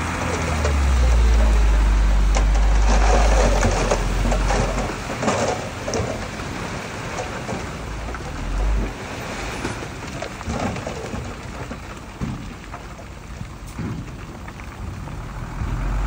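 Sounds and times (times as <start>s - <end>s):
diesel machinery rumbling: 0.0s - 16.0s
gravel being pushed and tumbled: 0.0s - 16.0s.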